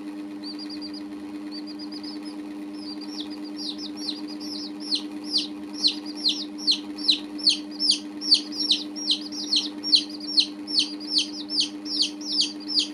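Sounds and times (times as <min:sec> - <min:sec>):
steady low hum: 0:00.0 - 0:12.9
baby chicks peeping: 0:00.1 - 0:12.9.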